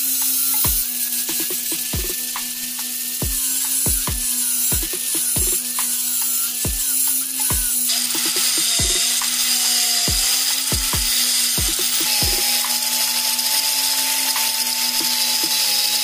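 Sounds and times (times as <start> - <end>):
angle grinder cutting plastic: 0.0 - 16.0.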